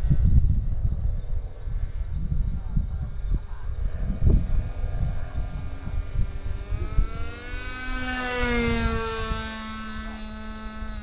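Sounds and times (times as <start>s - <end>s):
model plane engine buzzing: 0.0s - 11.0s
wind buffeting microphone: 0.0s - 11.0s.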